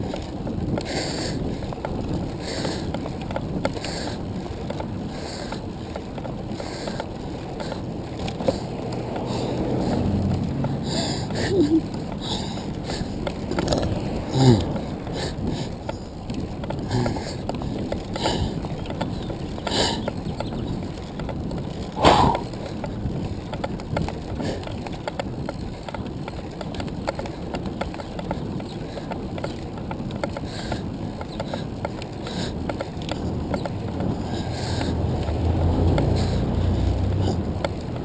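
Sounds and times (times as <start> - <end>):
tyre and road noise: 0.0 - 38.0.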